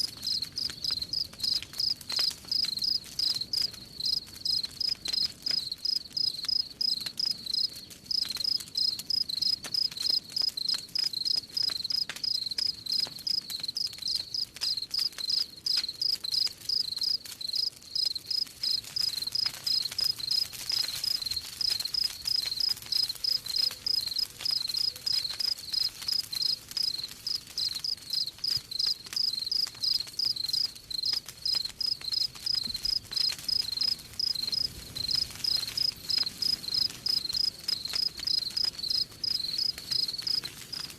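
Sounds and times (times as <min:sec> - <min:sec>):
campfire crackling: 0:00.0 - 0:40.9
crickets chirping: 0:00.3 - 0:01.9, 0:02.5 - 0:20.4, 0:21.0 - 0:40.8.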